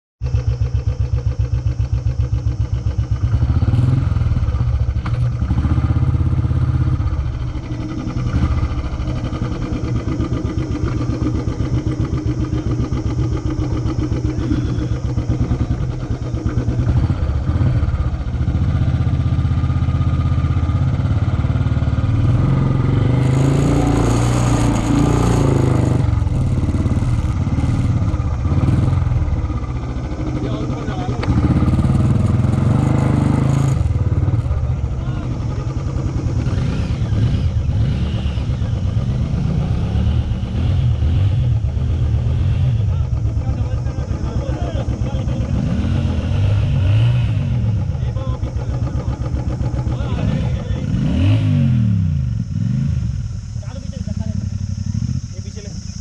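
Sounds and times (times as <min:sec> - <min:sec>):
motorcycle engine thumping: 0:00.2 - 0:23.4, 0:24.0 - 0:52.6
engine hiss and rattle: 0:00.2 - 0:56.0.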